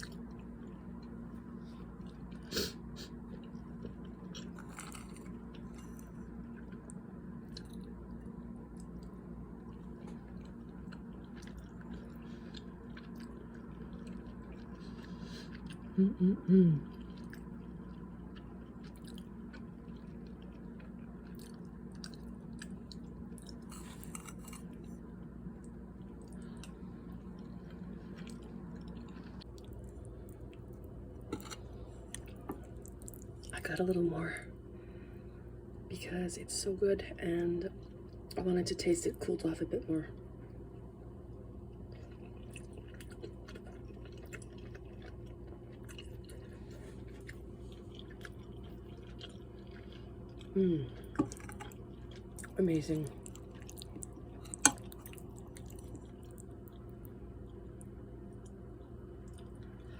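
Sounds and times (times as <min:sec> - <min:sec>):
person chewing: 0:00.0 - 0:33.5, 0:41.7 - 0:59.9
steady low hum: 0:00.0 - 0:59.9.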